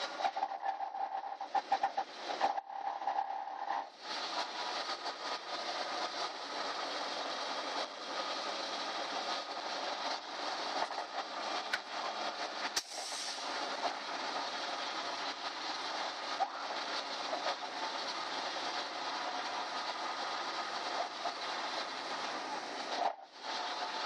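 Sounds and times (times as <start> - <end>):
bus road and engine noise: 0.0 - 24.0.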